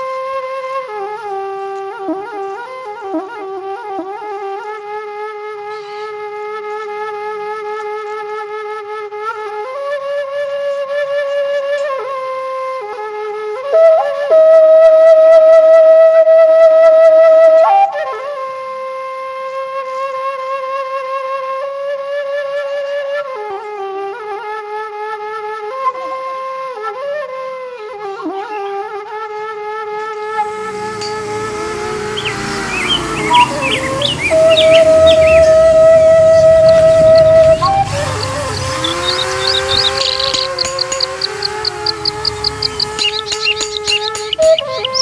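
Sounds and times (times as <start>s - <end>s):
solo flute slow melody: 0.0s - 45.0s.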